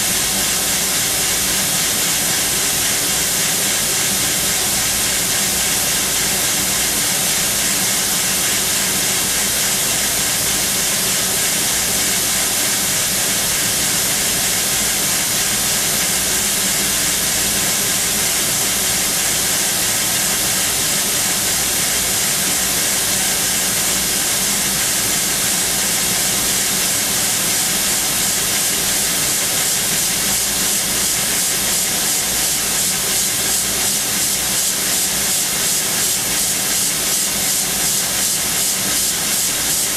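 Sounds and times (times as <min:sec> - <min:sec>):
drilling machine loud hiss: 0:00.0 - 0:39.9.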